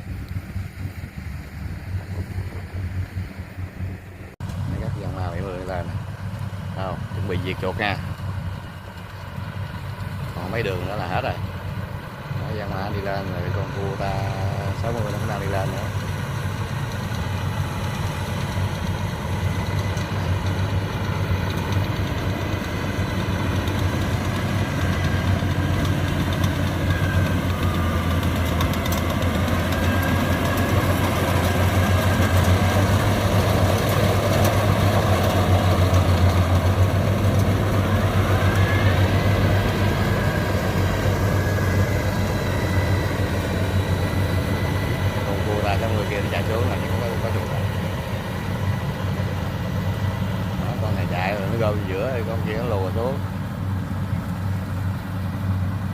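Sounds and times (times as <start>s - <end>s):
combine harvester engines droning: 0.0s - 55.9s.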